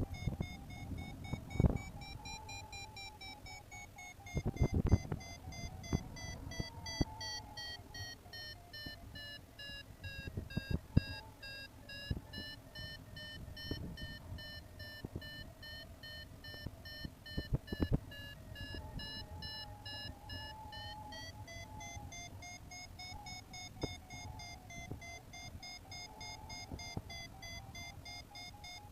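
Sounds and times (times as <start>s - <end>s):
variometer beeping: 0.0s - 28.9s.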